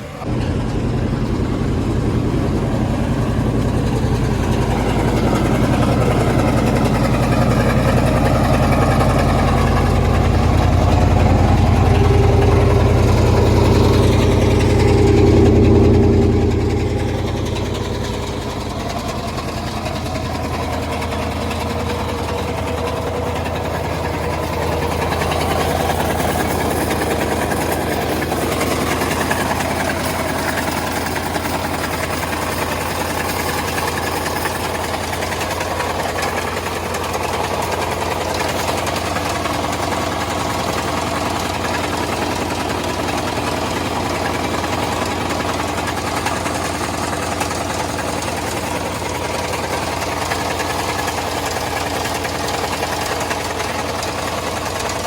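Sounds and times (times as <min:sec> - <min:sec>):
engine idling with knocking: 0:00.0 - 0:55.0.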